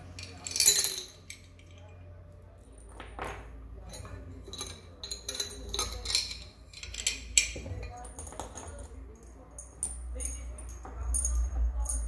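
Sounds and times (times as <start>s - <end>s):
metal tools clinking: 0.0s - 2.0s, 2.6s - 12.0s.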